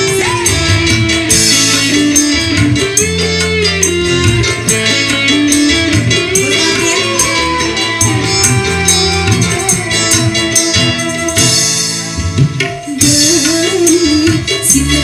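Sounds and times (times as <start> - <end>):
bass guitar: 0.0 - 15.0
electric guitars: 0.0 - 15.0
keyboards: 0.0 - 15.0.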